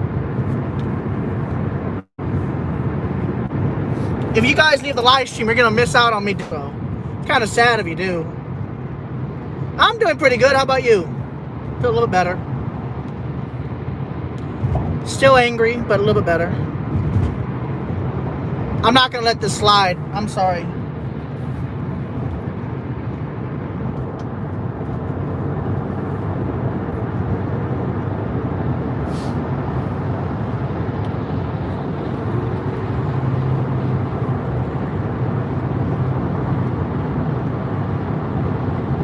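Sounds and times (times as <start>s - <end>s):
car engine drone: 0.0s - 39.0s.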